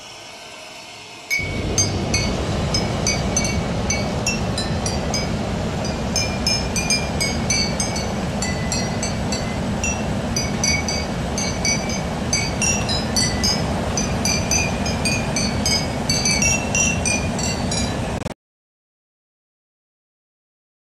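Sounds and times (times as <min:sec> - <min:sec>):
low rumble: 0:01.4 - 0:18.2.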